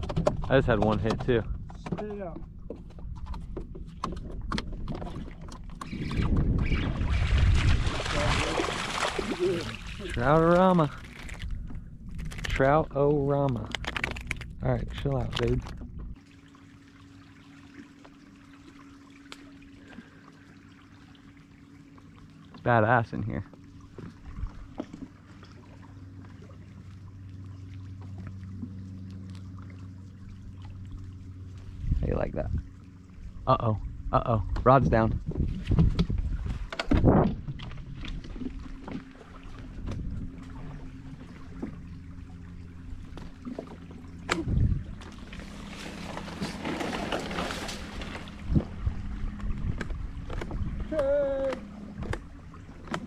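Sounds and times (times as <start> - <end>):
boat motor running: 0.0 - 53.0
steady low hum: 0.0 - 53.0
water trickling and lapping: 0.0 - 53.0.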